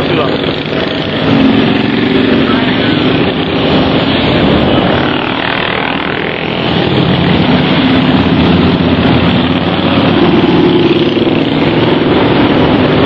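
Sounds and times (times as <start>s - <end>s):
motorcycle engines running loudly: 0.0s - 13.0s.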